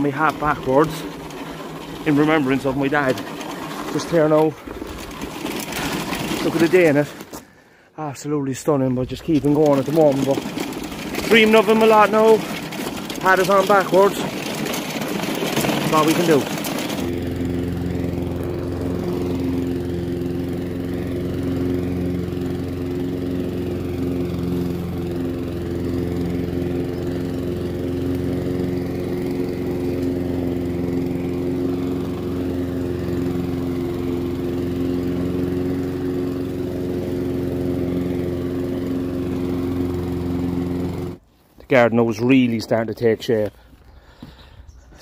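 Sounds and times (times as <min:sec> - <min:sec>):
petrol lawn mower running: 0:00.0 - 0:44.8.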